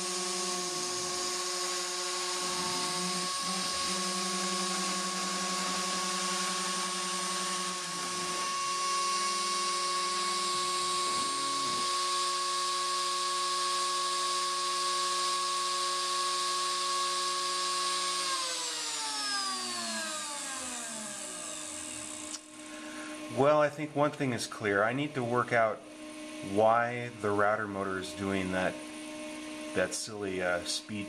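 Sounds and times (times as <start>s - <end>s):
router motor whining: 0.0s - 23.6s, 24.9s - 31.0s.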